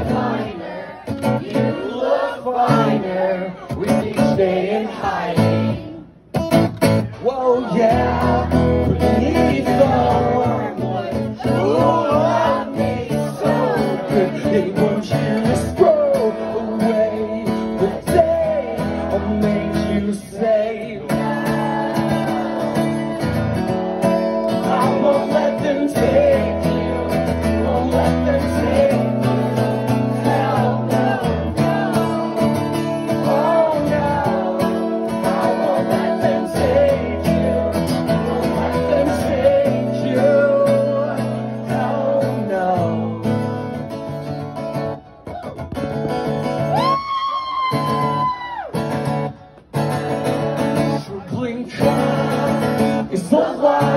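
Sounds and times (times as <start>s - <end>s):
strummed acoustic guitar: 0.0s - 46.8s, 47.8s - 53.9s
man singing: 2.0s - 5.9s, 7.1s - 43.6s, 50.4s - 53.9s.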